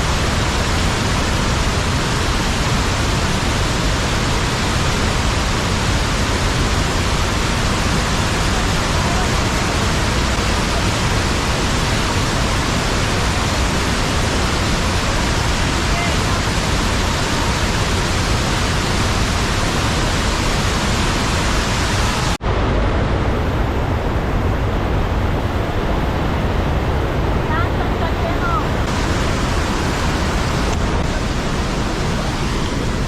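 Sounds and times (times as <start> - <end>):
loud steady rushing noise: 0.0 - 33.0.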